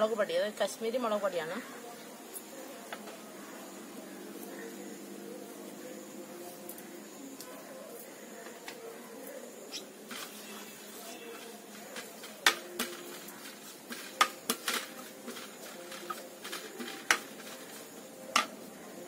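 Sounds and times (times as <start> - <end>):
faint steady background noise: 0.0 - 19.0.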